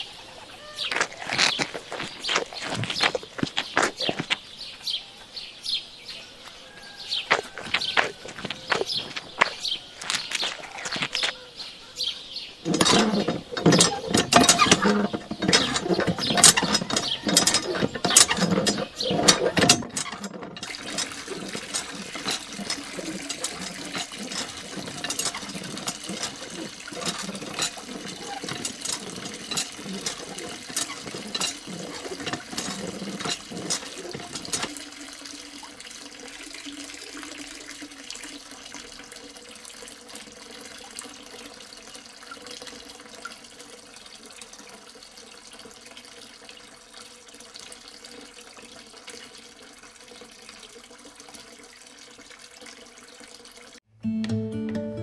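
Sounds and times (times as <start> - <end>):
water trickling into a pond: 0.0 - 53.9.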